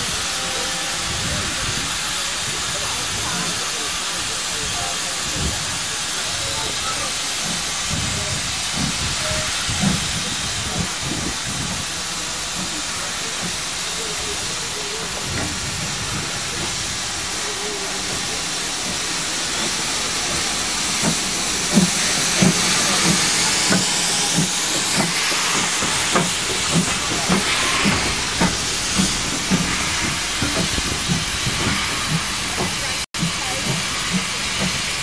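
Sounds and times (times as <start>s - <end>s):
steam locomotive exhaust chuffs: 0.0s - 35.0s
steam locomotive hissing steam: 0.0s - 35.0s.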